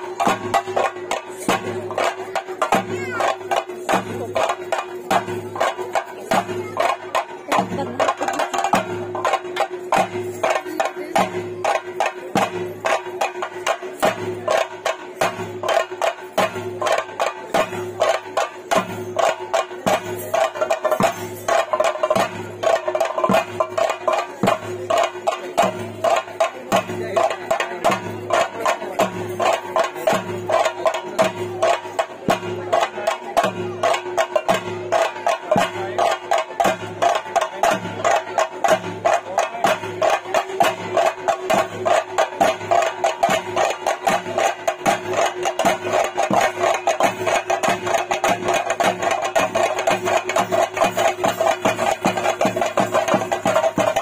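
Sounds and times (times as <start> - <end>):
drums beaten in fast rhythm: 0.0 - 54.0.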